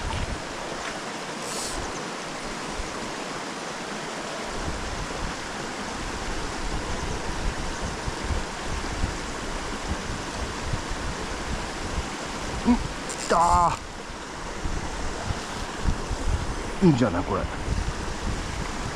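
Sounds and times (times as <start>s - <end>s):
stream rushing over rocks: 0.0s - 18.9s.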